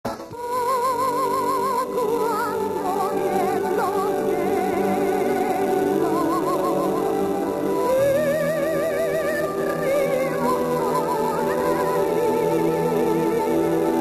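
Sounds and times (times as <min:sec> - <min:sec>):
operatic singing: 0:00.0 - 0:14.0.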